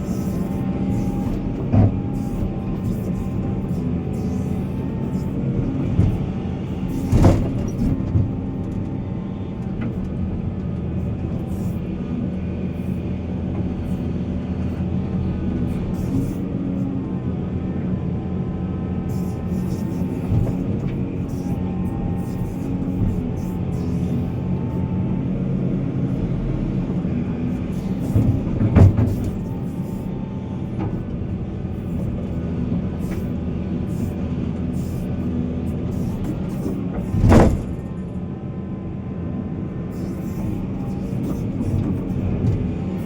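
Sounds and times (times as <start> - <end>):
diesel machinery running: 0.0 - 43.0.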